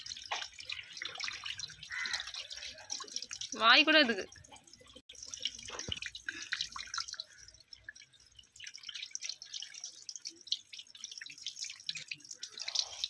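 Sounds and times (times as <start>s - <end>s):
water splattering on stone: 0.0s - 13.0s.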